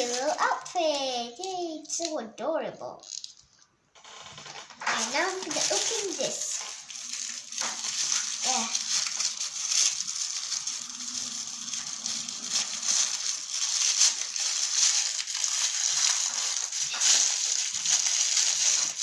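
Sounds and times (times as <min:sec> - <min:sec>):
plastic packaging crinkling: 0:00.0 - 0:02.0, 0:03.0 - 0:19.0.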